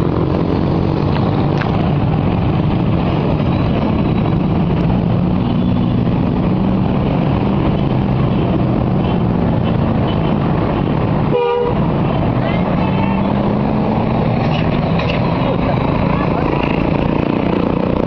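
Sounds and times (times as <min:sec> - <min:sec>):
loud road noise: 0:00.0 - 0:18.0.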